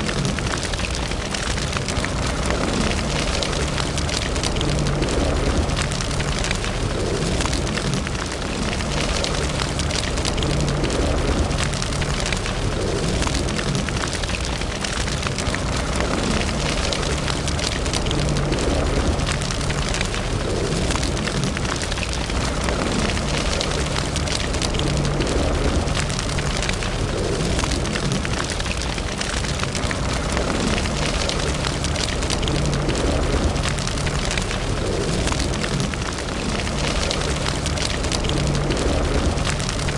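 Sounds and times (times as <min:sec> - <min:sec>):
low steady rumble: 0:00.0 - 0:39.9
wood fire crackling: 0:00.0 - 0:39.9.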